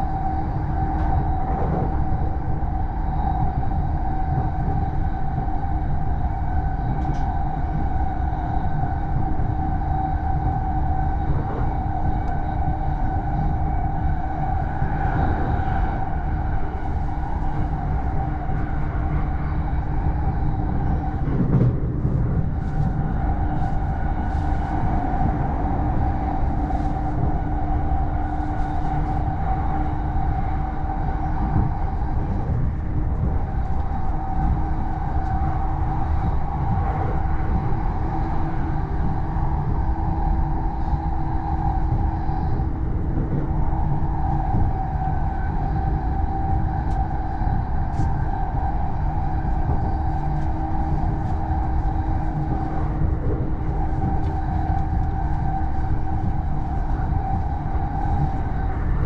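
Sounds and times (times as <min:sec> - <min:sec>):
electric train whine: 0:00.0 - 0:59.0
train running rumble: 0:00.0 - 0:59.0.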